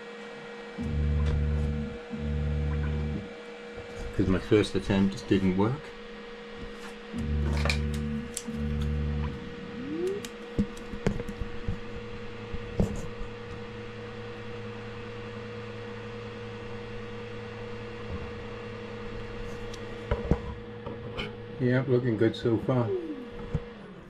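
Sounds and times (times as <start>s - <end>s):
printer motor hum: 0.0s - 24.0s.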